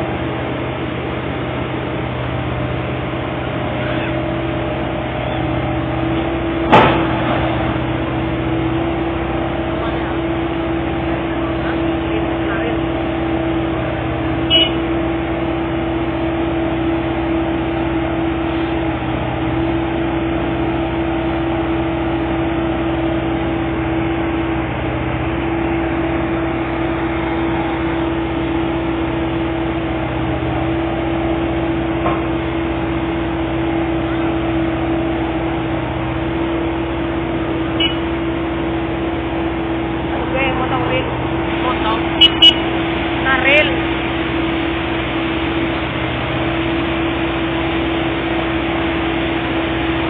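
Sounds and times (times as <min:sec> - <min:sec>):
diesel engine droning: 0:00.0 - 0:50.0.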